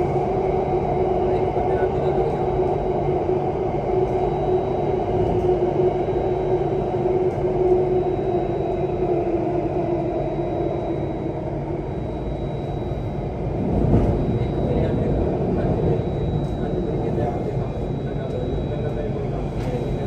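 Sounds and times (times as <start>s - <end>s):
train wheel-on-rail rumble: 0.0s - 20.0s.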